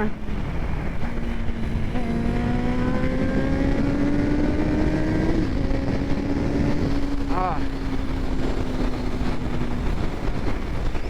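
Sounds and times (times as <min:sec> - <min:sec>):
motorcycle engine accelerating: 0:00.0 - 0:11.0
wind rumble on microphone: 0:00.0 - 0:11.0.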